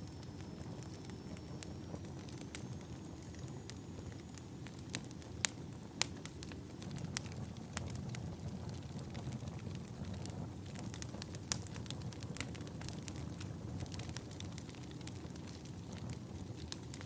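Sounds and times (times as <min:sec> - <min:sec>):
log fire crackling: 0:00.0 - 0:17.0.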